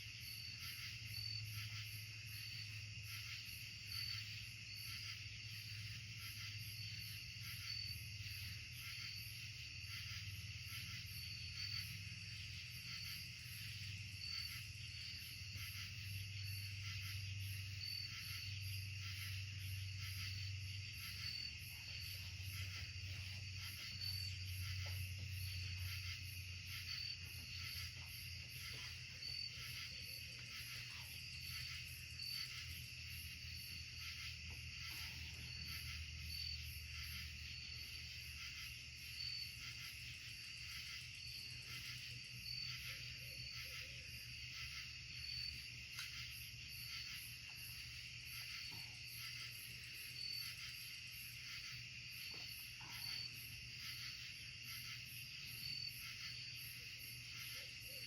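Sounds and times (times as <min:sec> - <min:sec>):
insect chirps: 0:00.0 - 0:58.0
insects trilling: 0:00.0 - 0:58.0.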